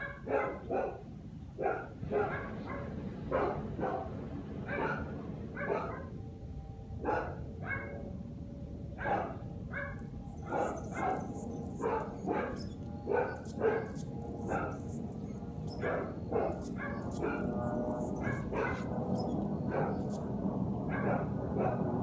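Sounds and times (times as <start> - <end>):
dogs barking: 0.0 - 6.1, 7.0 - 8.1, 9.0 - 22.0
low steady hum: 0.6 - 22.0.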